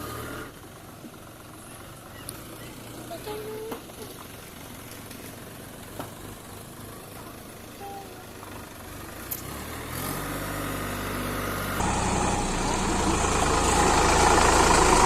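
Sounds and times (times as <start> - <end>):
tractor engine idling: 0.0 - 9.3, 11.8 - 15.0.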